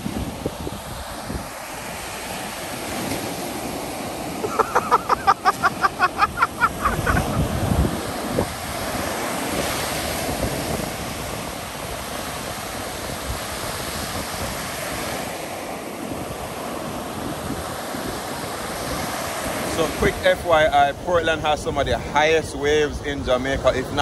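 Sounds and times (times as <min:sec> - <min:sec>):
surf breaking on beach: 0:00.0 - 0:24.0.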